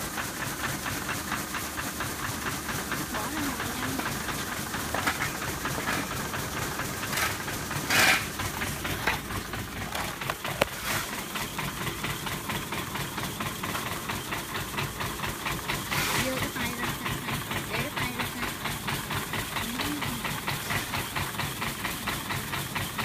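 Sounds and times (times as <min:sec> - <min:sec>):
machinery rumbling and rattling: 0:00.0 - 0:23.0.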